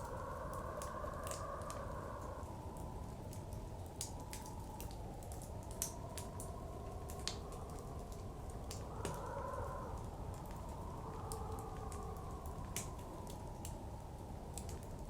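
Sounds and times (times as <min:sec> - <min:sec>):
howling blizzard wind: 0:00.0 - 0:15.0
wood fire crackling and popping: 0:00.0 - 0:15.0.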